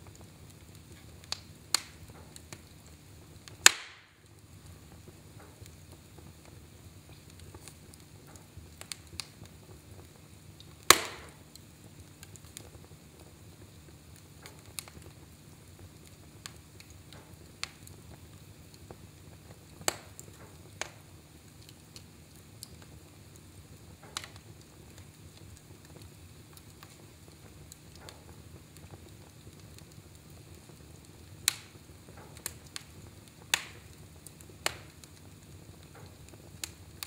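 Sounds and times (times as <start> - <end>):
log fire crackling and popping: 0.0 - 37.0.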